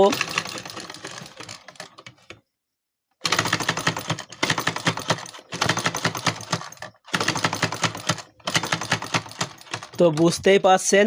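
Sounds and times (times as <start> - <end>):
sewing machine clattering: 0.0 - 2.4, 3.2 - 10.8.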